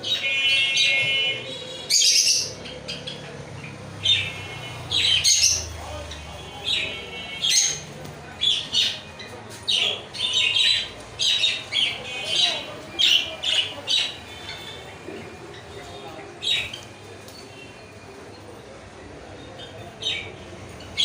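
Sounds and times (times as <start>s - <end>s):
lovebirds chirping and squawking: 0.0s - 21.0s.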